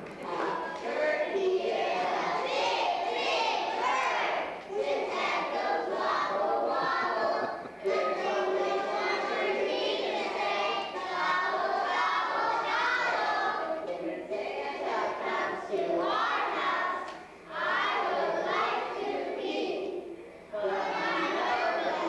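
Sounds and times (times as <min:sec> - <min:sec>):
children singing in unison: 0:00.0 - 0:22.0.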